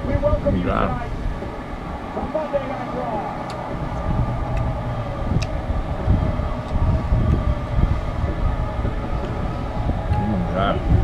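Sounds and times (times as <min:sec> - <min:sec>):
droning hum of held tones: 0:00.0 - 0:11.0
low uneven rumble: 0:00.0 - 0:11.0.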